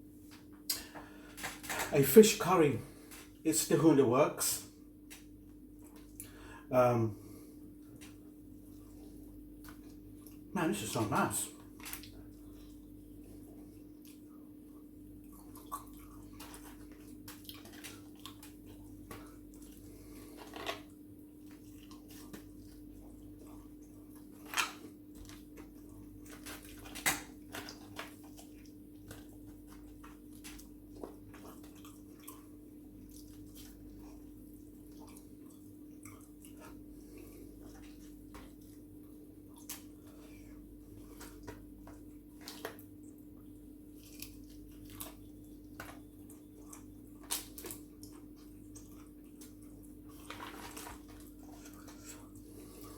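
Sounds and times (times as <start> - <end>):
steady low hum: 0.0 - 52.9
wet chewing and smacks: 5.0 - 6.4, 7.6 - 10.5, 11.6 - 52.9.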